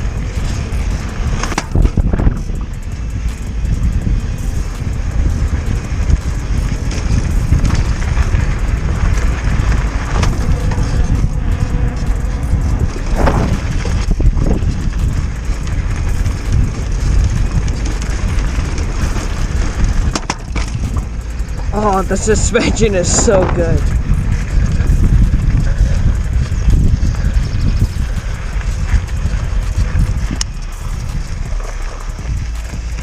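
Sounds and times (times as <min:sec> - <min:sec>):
tyre noise: 0:00.0 - 0:33.0
wind buffeting microphone: 0:00.0 - 0:33.0.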